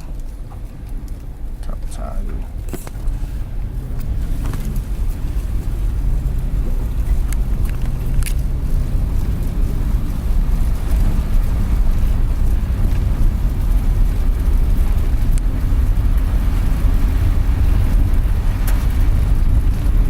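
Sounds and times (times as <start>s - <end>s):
van engine and tyre rumble: 0.0s - 20.0s.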